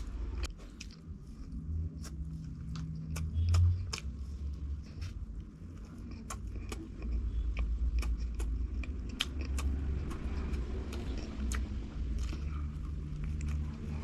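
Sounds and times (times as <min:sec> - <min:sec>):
deep low rumble: 0:00.0 - 0:14.0
crunchy food chewing: 0:00.1 - 0:14.0.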